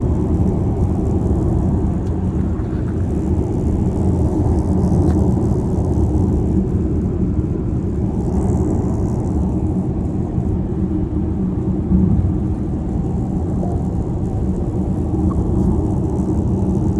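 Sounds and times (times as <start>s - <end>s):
road and wind rumble in car: 0.0s - 16.9s.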